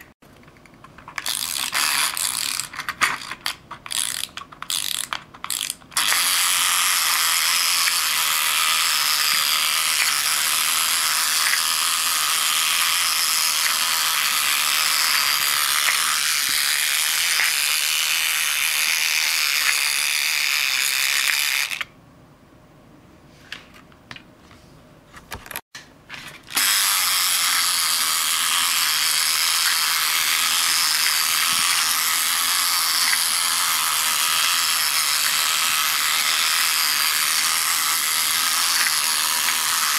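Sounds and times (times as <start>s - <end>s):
toy motor rattling whir: 0.9s - 22.0s, 26.2s - 39.9s.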